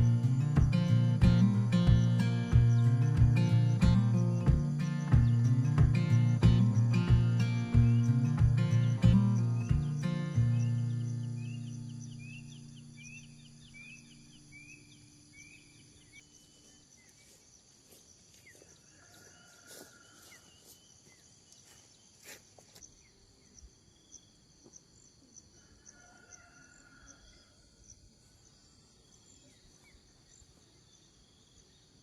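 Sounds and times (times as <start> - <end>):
crickets and insects chirring: 0.0 - 32.0.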